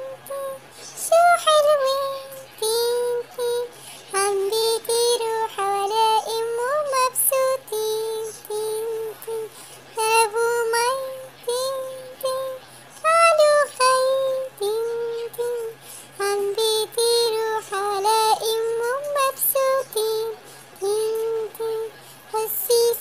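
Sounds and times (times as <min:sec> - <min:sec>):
child singing: 0:00.0 - 0:23.0.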